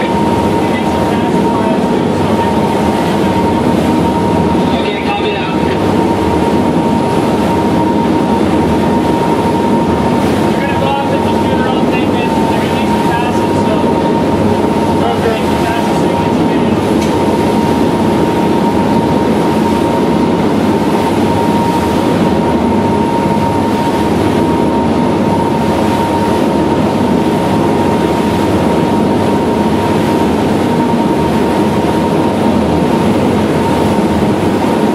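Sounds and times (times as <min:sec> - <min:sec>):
boat engine: 0:00.0 - 0:34.9
high whine: 0:00.0 - 0:34.9
rushing water: 0:00.0 - 0:34.9.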